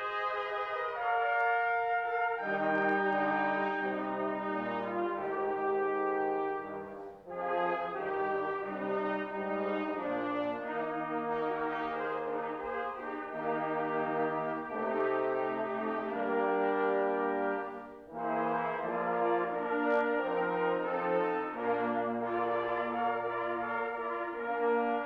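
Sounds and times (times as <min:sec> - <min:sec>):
brass playing slow chords: 0:00.0 - 0:25.0.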